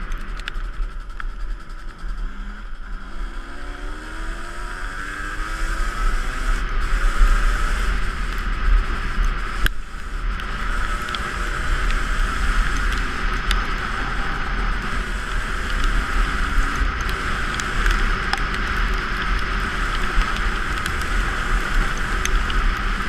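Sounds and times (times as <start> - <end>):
dirt bike engine accelerating: 0.0 - 23.0
wind rumble on microphone: 0.0 - 23.0.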